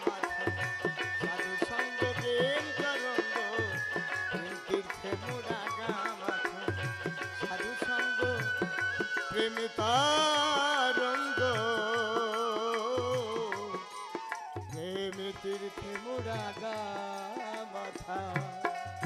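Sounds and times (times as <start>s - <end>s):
hand drum rhythm: 0.0s - 19.0s.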